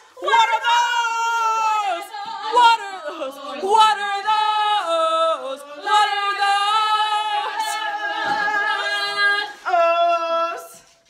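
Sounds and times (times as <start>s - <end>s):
woman singing a cappella: 0.0s - 11.0s.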